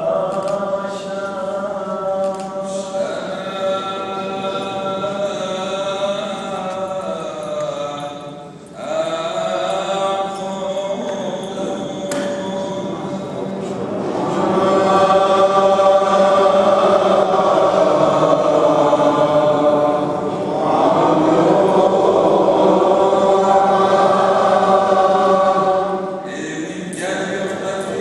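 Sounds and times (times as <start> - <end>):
liturgical chant: 0.0 - 28.0.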